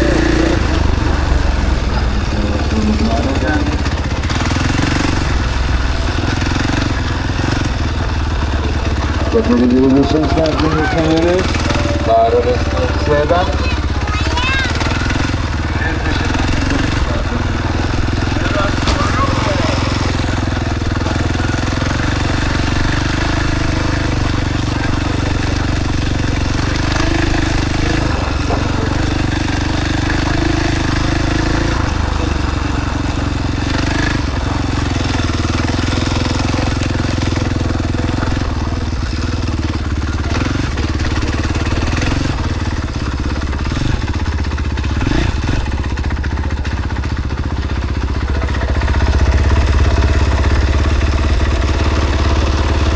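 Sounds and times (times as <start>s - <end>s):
motocross bike engine running: 0.0s - 52.9s.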